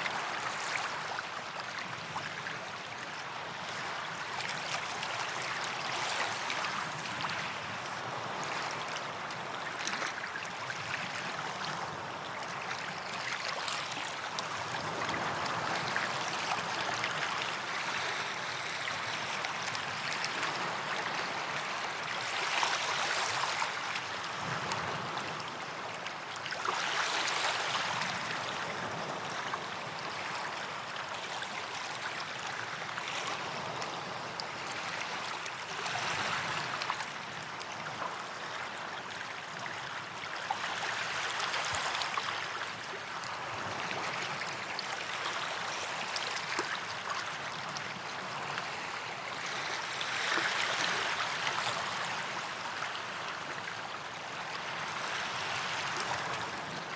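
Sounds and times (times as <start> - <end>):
small waves breaking on sand: 0.0 - 56.9.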